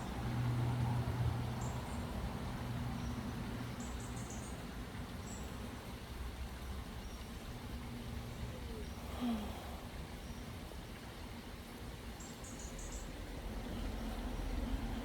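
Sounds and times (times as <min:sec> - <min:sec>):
low engine hum: 0:00.0 - 0:12.0, 0:12.8 - 0:15.0.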